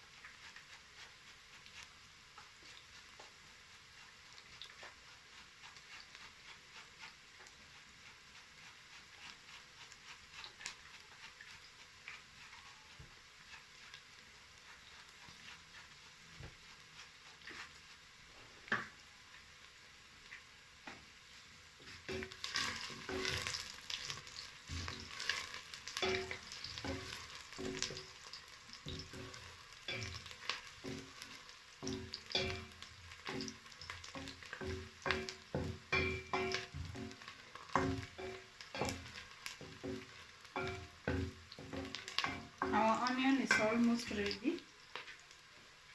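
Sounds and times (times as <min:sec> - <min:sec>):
onions sizzling in a pan: 0:00.0 - 0:45.9
spoon stirring and scraping pan: 0:00.0 - 0:45.9.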